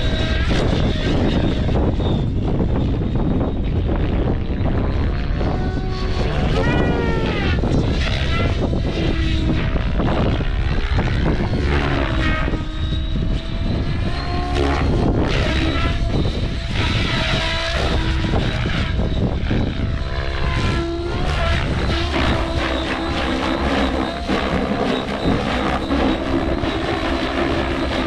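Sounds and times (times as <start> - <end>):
rc helicopter rotor buzz: 0.0 - 28.0
wind buffeting on microphone: 0.0 - 28.0.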